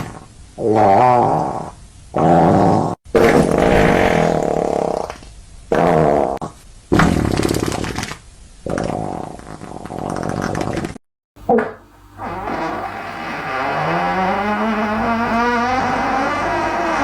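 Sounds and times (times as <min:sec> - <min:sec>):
comic fart sound effects: 0:00.0 - 0:17.0.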